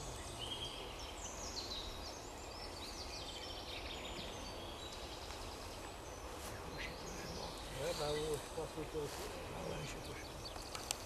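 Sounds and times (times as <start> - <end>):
songbirds trilling: 0.0 - 11.0.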